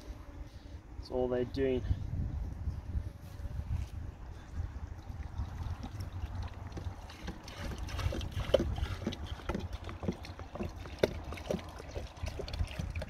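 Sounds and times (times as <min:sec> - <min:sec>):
wind rumble on microphone: 0:01.5 - 0:13.0.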